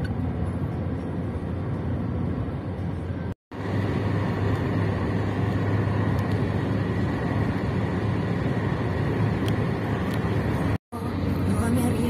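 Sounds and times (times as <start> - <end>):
car engine and tyre hum: 0.0 - 12.0.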